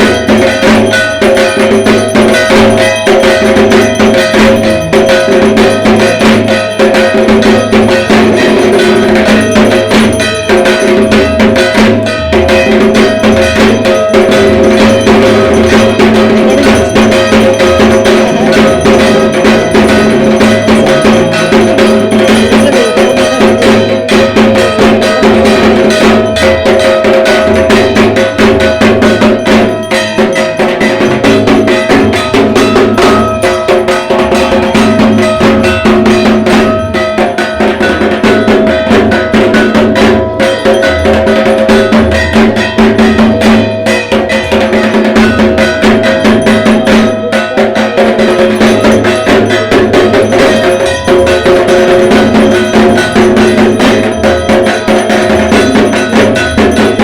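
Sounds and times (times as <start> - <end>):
barrel drums fast rhythm: 0.0 - 57.0
metallic gong ringing: 0.0 - 57.0.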